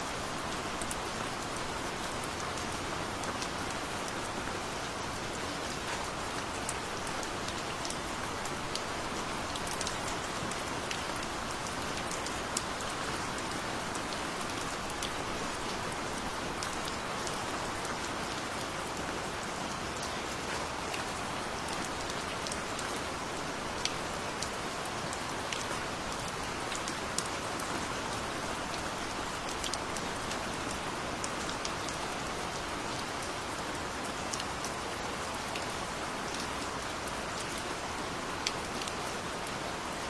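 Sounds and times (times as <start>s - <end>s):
gentle rain falling: 0.0s - 40.0s.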